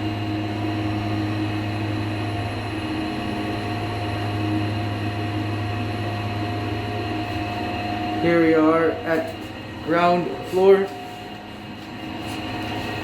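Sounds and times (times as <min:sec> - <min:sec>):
elevator car hum: 0:00.0 - 0:13.0.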